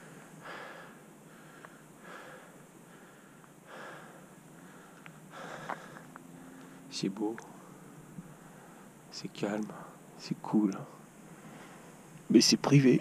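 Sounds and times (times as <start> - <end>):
soft breathing: 0.0 - 10.1, 11.2 - 12.2
low hiss: 0.0 - 13.0.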